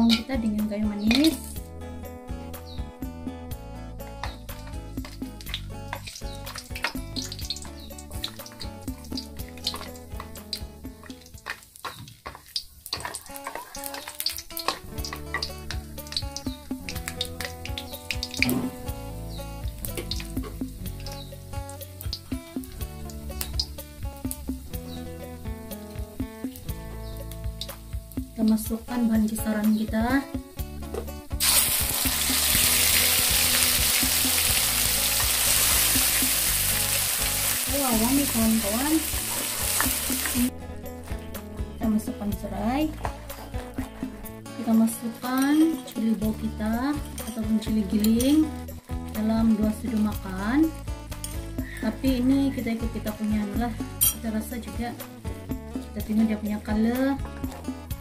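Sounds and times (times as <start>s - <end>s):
background music: 0.0s - 58.0s
spices sizzling in hot oil: 0.0s - 58.0s.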